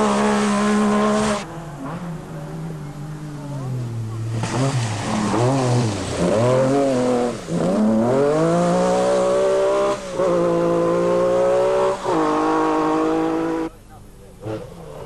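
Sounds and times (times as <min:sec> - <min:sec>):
rally car engine revving hard: 0:00.0 - 0:13.7.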